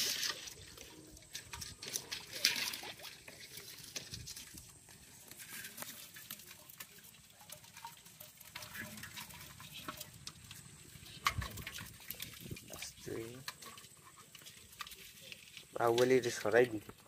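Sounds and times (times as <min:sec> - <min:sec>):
small animals pattering in metal pot: 0:00.0 - 0:17.0.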